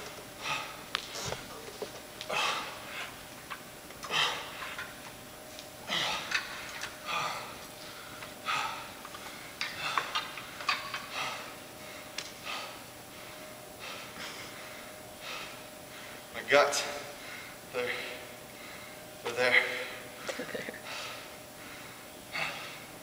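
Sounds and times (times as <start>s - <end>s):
man breathing hard: 0.4s - 1.5s, 2.2s - 3.2s, 4.0s - 4.9s, 5.8s - 20.2s, 20.8s - 23.0s.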